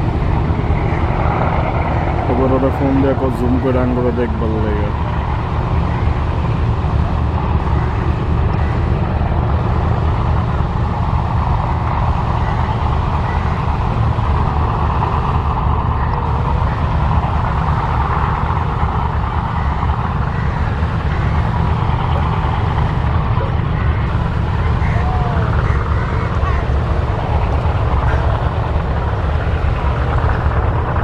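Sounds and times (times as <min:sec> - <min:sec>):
boat diesel engine rumble: 0:00.0 - 0:31.0
rushing water: 0:00.0 - 0:31.0.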